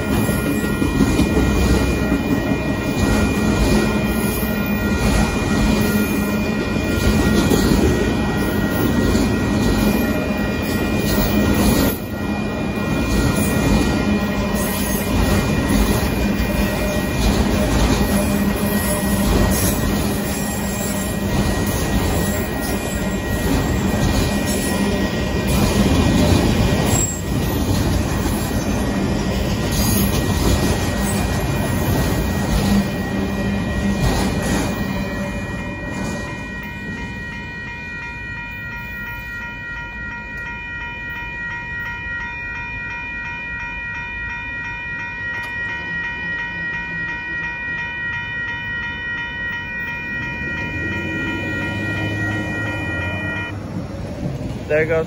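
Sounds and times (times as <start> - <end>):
crossing warning bell ringing: 0.0 - 55.0
train cars rumbling: 0.0 - 55.0.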